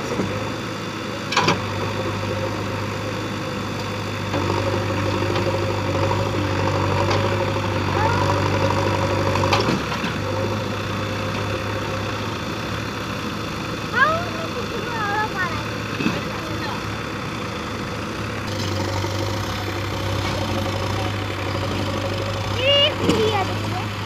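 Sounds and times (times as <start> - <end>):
tractor and digger engines: 0.0 - 24.0.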